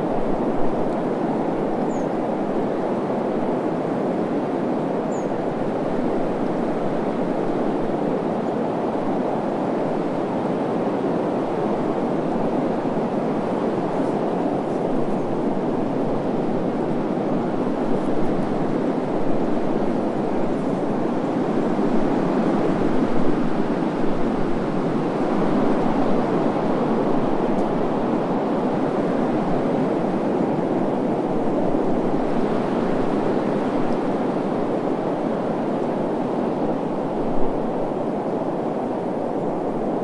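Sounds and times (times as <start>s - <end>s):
wind blowing: 0.0s - 40.0s.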